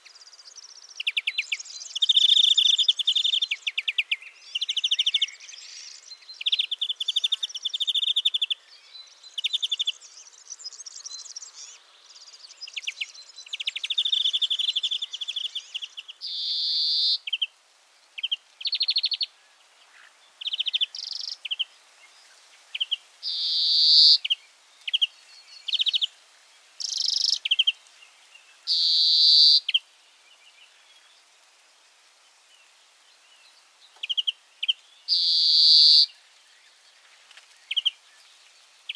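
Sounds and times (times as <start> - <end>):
bird twittering trills: 0.0 - 17.5, 18.2 - 26.1, 26.8 - 31.2, 33.3 - 38.9.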